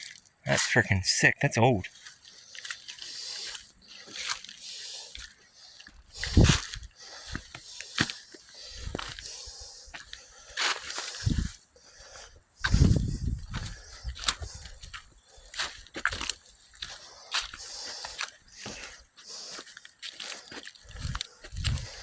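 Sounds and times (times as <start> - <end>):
footsteps on rough ground: 1.8 - 22.0.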